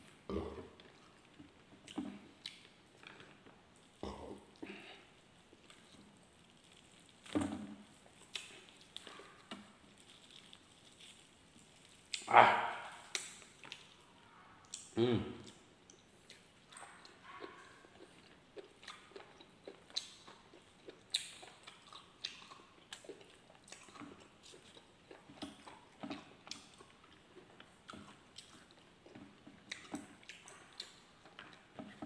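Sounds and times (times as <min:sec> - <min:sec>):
person chewing with wet smacks: 0:00.0 - 0:32.0.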